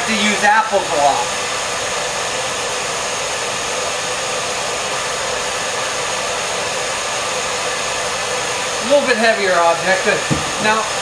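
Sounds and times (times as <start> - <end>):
hair dryer blowing air: 0.0 - 11.0.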